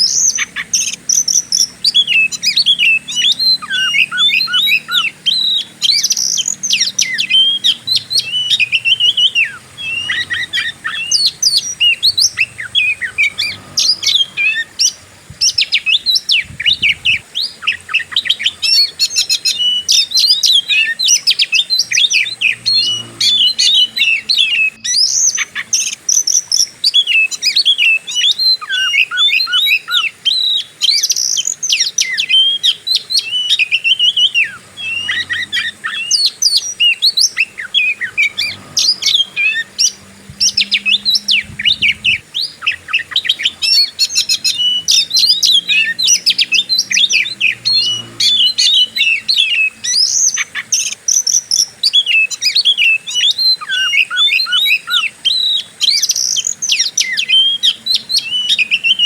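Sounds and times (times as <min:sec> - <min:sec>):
bird singing whistles and chirps: 0:00.0 - 0:59.0.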